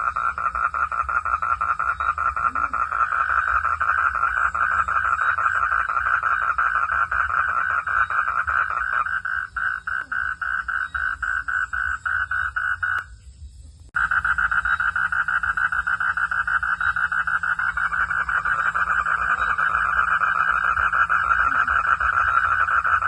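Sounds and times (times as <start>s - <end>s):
frog calling in pulses: 0.0s - 13.1s, 14.0s - 23.0s.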